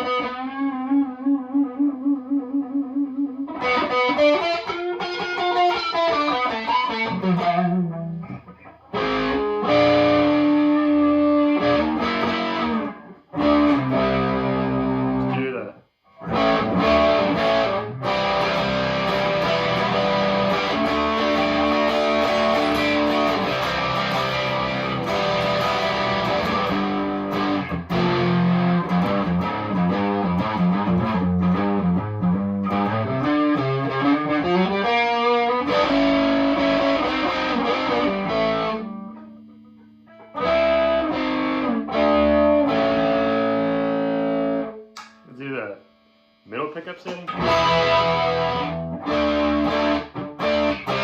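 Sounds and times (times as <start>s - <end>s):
distorted electric guitar: 0.0s - 51.0s.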